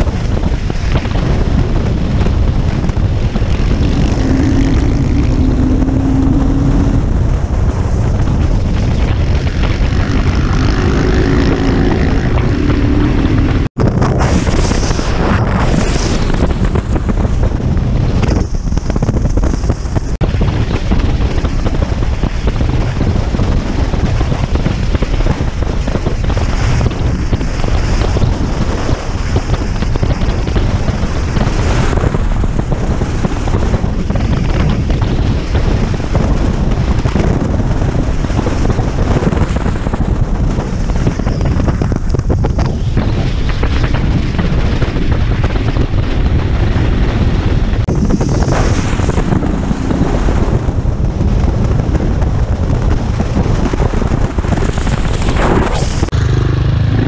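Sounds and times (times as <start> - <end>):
motorcycle engine running: 0.0 - 57.0
wind buffeting on microphone: 0.0 - 57.0.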